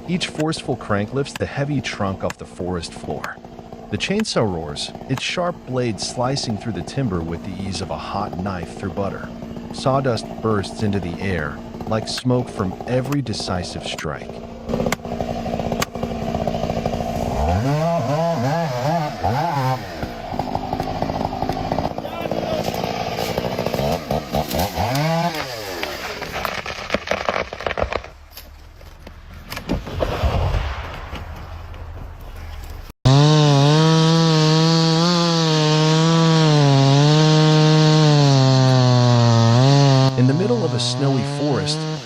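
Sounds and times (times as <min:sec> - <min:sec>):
chainsaw engine running and revving: 0:00.0 - 0:28.1, 0:33.1 - 0:42.0.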